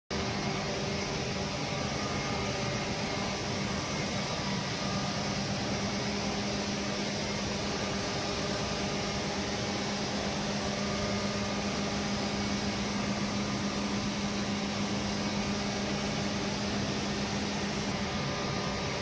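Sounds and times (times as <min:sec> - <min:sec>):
air compressors droning: 0:00.1 - 0:19.0.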